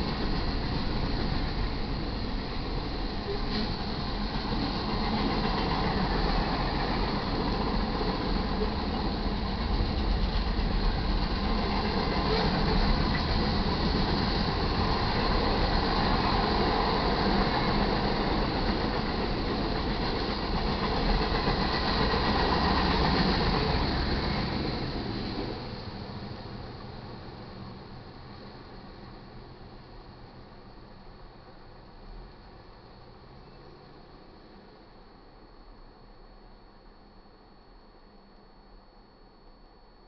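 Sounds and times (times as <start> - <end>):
freight train wheels rumbling: 0.0 - 34.1.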